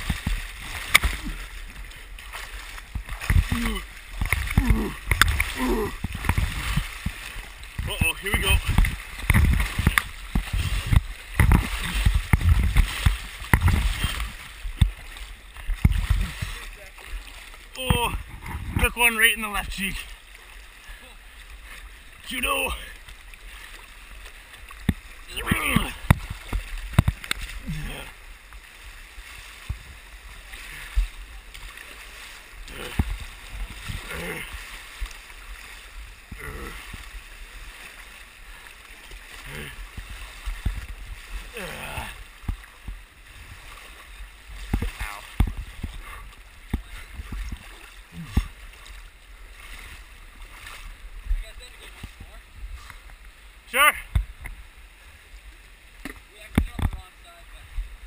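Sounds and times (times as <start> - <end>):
waves slapping against camera: 0.0 - 58.0
whitewater rushing: 0.0 - 58.0.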